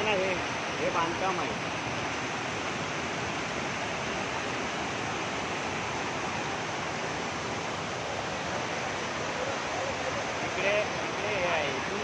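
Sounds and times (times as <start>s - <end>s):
floodwater rushing over a weir: 0.0s - 12.0s.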